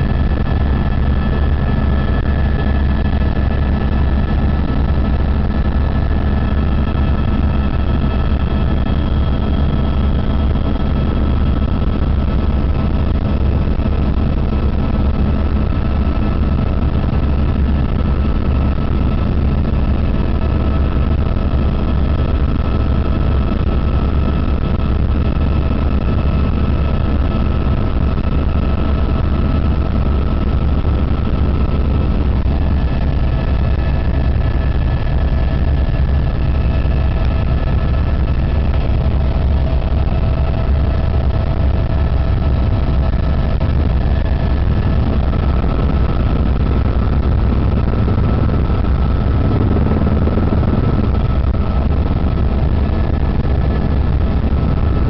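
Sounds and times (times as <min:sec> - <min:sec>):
helicopter rotor drone: 0:00.0 - 0:55.0.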